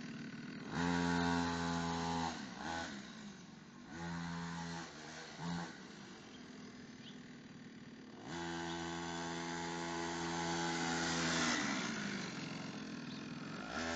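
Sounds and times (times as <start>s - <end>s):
small engine revving: 0.0s - 13.9s.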